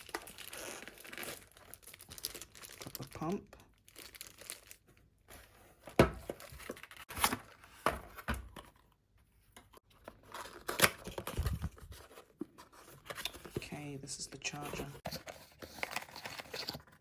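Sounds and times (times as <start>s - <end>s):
packaging rustling and crinkling: 0.0s - 8.8s, 9.7s - 17.0s.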